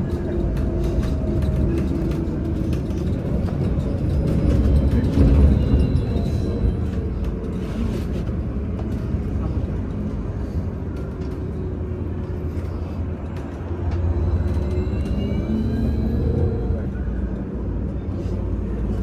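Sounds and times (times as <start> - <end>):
low rumble of road and body: 0.0 - 19.0.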